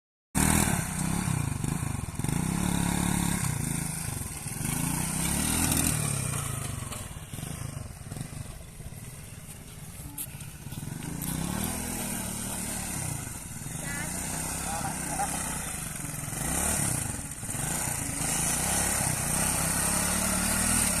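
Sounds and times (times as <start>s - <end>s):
motorcycle engine revving: 0.4s - 21.0s.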